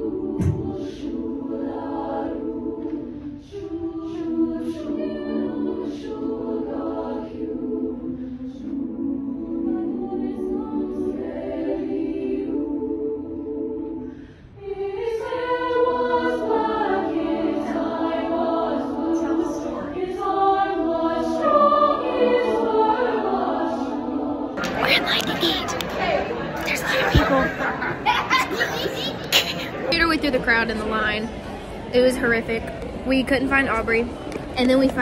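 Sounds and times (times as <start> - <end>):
large choir singing: 0.0 - 29.0.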